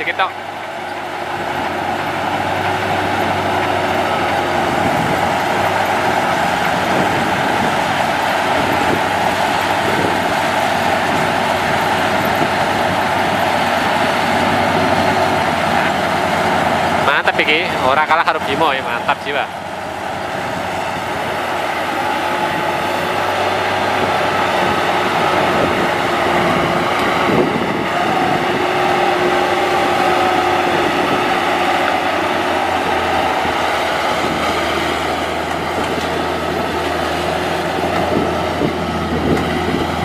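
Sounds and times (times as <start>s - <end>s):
combine harvester engine drone: 0.0s - 40.0s
steady machine whine: 0.0s - 40.0s.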